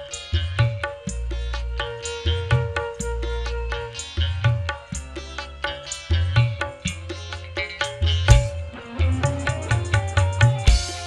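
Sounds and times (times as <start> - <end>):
plucked melody notes: 0.0 - 11.0
steady drum rhythm: 0.0 - 11.0.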